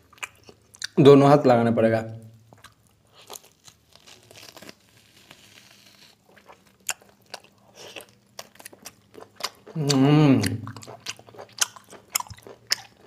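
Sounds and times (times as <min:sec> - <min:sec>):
wet chewing and biting: 0:02.5 - 0:13.0.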